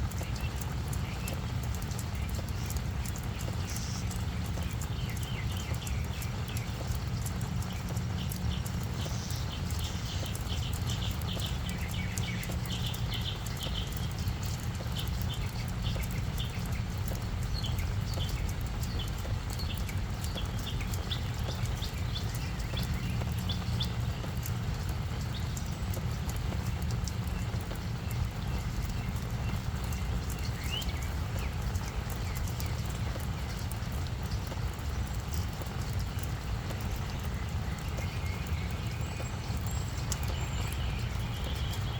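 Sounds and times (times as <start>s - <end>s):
rain drops ticking on plants: 0.0s - 41.9s.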